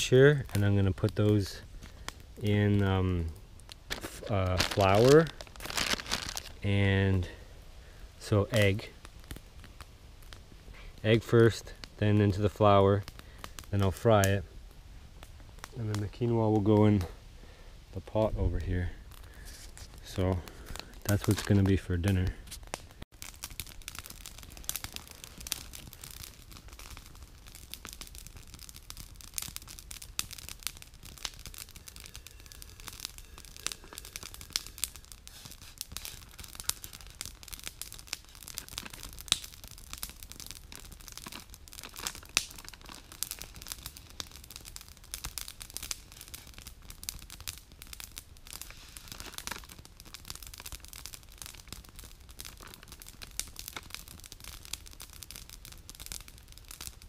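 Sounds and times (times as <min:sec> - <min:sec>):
campfire crackling and snapping: 0:00.0 - 0:57.0.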